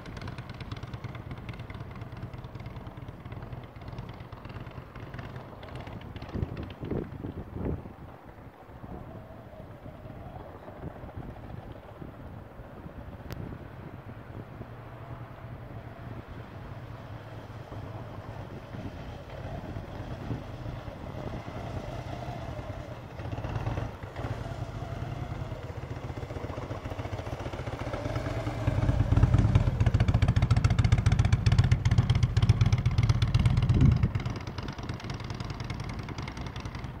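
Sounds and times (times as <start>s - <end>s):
motorcycle engine passing: 0.0s - 37.0s.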